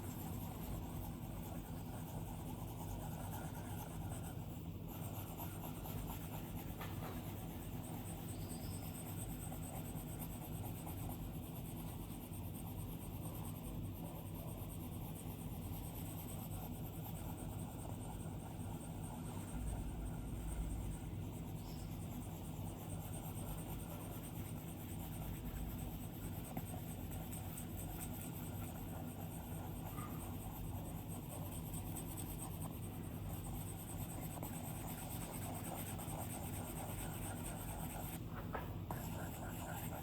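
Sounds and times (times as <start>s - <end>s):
stylus scratching and tapping on screen: 0.0s - 40.0s.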